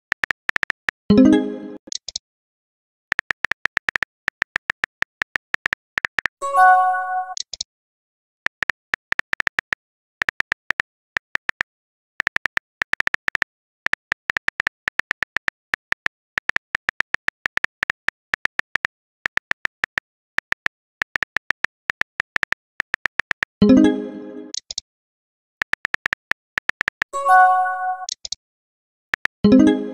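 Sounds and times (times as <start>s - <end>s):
keyboard typing clicks: 0.1s - 2.2s, 3.1s - 6.4s, 7.2s - 7.7s, 8.5s - 23.6s, 24.5s - 24.8s, 25.6s - 27.2s, 27.8s - 28.4s, 29.2s - 29.8s.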